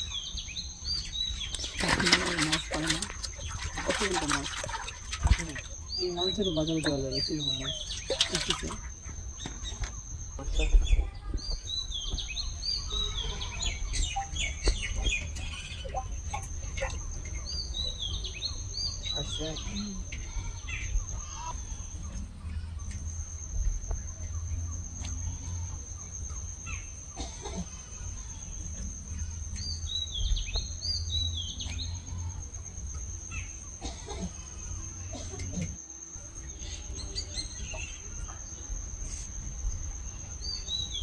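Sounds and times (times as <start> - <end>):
birds chirping: 0.0 - 41.0
insect trill: 0.0 - 41.0.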